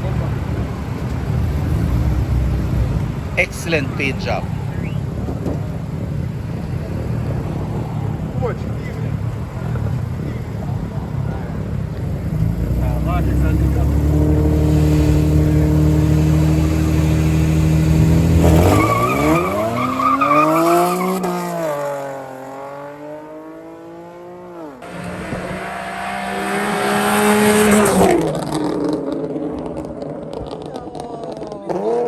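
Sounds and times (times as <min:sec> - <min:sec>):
drag race cars revving and accelerating: 0:00.0 - 0:32.0.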